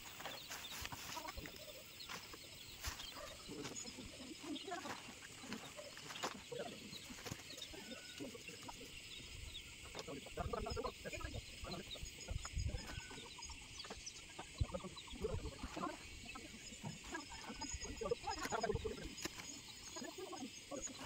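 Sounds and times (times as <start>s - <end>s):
chickens clucking: 0.0s - 21.0s
small birds chirping: 0.0s - 21.0s.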